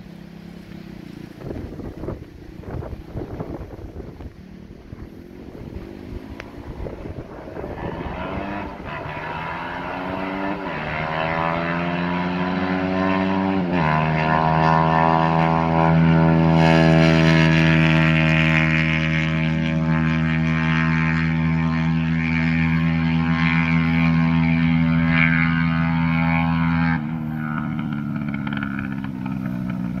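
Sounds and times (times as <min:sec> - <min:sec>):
small engine revving at full throttle: 0:00.0 - 0:30.0.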